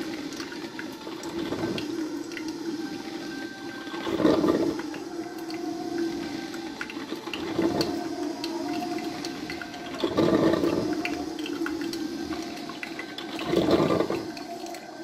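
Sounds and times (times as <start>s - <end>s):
coffee maker gurgling: 0.0s - 15.0s
coffee maker humming: 0.0s - 15.0s.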